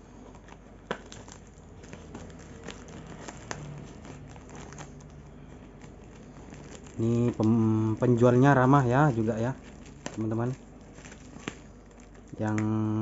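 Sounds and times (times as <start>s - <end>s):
plastic crinkling: 0.0s - 13.0s.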